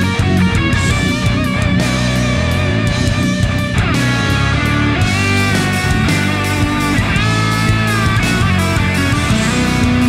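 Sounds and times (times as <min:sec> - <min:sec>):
electric guitar: 0:00.0 - 0:10.0
steady drumbeat: 0:00.0 - 0:10.0.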